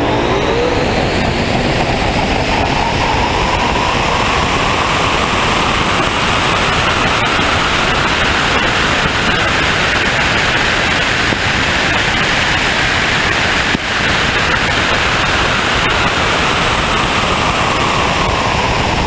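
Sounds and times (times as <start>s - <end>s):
wind and road noise from car: 0.0s - 19.0s.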